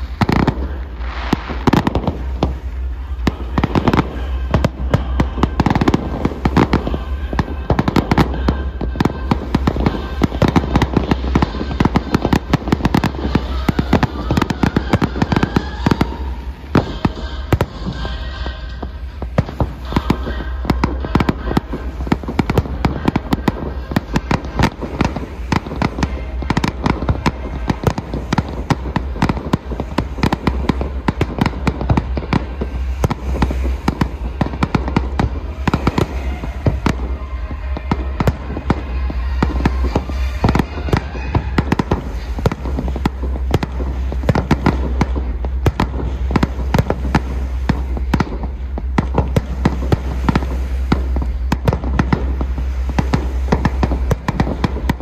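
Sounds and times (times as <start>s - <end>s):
fireworks bangs and crackling: 0.0s - 55.0s
low rumble: 0.0s - 55.0s.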